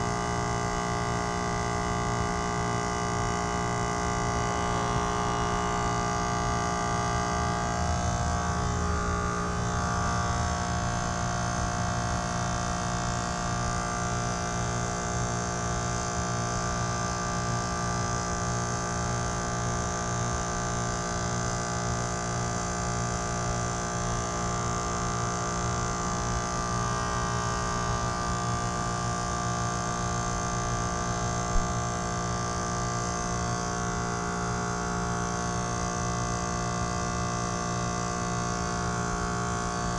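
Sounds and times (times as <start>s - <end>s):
heat pump hum with hiss: 0.0s - 39.9s.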